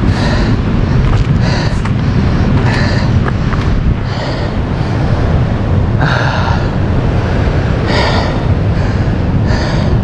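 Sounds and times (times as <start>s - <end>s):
man breathing hard: 0.0s - 10.0s
wind on microphone: 0.0s - 10.0s.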